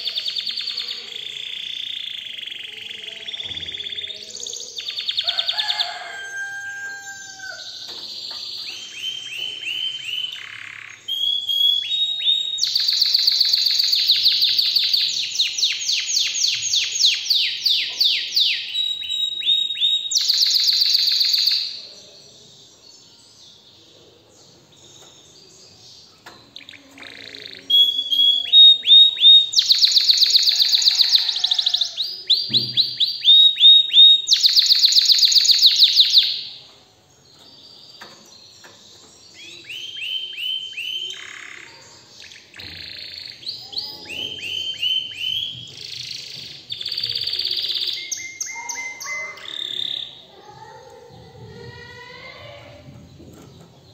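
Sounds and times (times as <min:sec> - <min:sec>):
canary singing trills: 0:00.0 - 0:23.7, 0:24.5 - 0:53.9.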